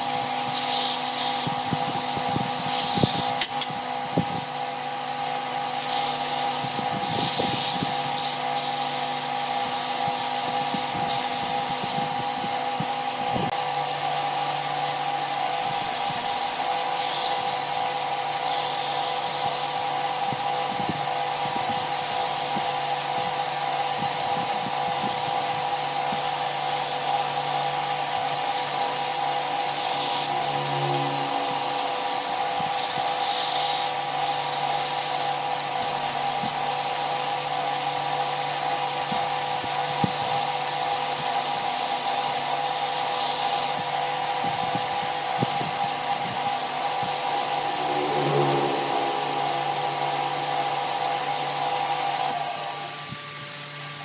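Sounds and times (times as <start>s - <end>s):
sandpaper rubbing spinning wood: 0.0s - 4.3s, 5.3s - 13.4s, 15.3s - 54.0s
wood lathe motor humming: 0.0s - 54.0s.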